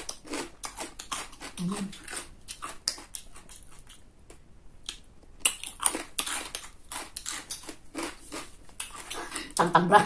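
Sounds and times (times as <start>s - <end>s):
crunchy food being chewed: 0.0s - 9.6s.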